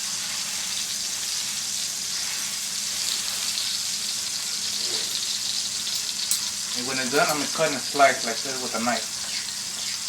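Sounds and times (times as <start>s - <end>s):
chicken sizzling in a pan: 0.0s - 10.0s.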